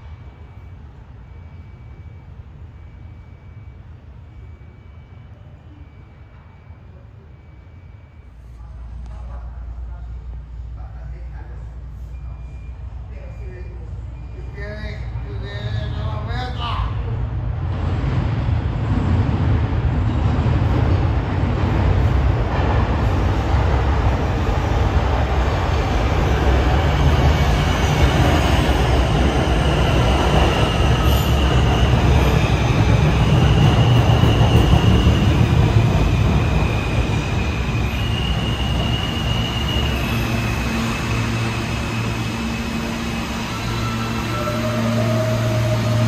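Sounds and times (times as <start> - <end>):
subway wheels rumbling on rail: 0.0 - 46.0.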